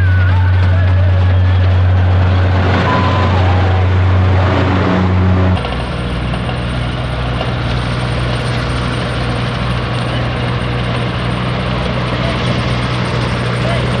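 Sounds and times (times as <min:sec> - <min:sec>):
engine humming steadily: 0:00.0 - 0:14.0.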